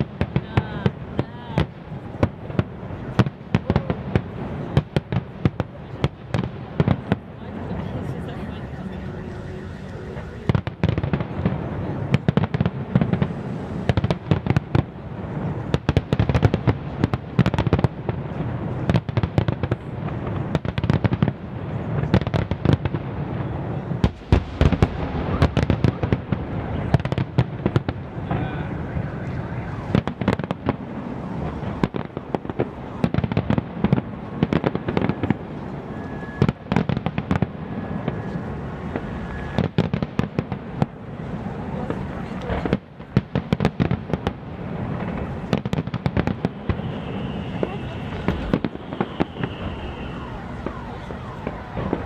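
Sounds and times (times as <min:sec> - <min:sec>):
firework bangs and crackling bursts: 0:00.0 - 0:52.0.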